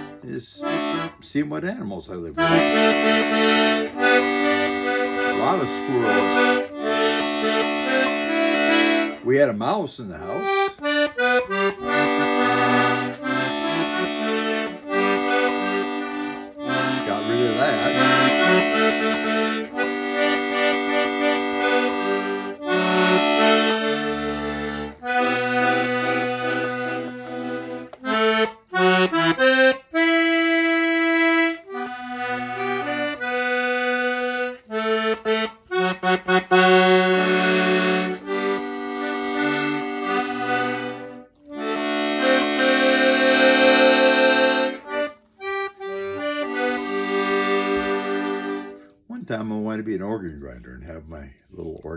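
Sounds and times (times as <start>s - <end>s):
accordion playing a tune: 0.0s - 51.2s.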